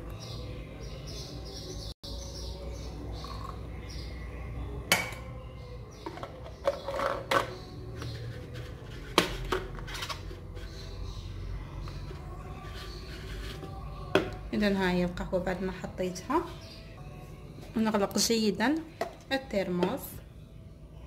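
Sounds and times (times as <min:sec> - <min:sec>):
faint bird chirping: 0:00.0 - 0:09.1, 0:09.9 - 0:21.0.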